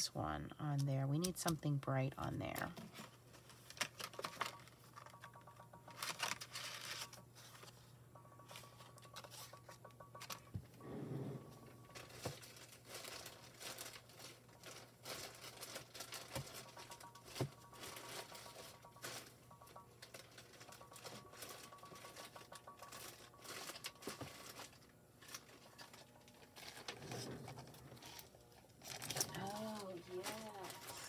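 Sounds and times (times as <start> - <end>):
paper and foil crinkling: 0.8 - 10.4, 11.8 - 31.0.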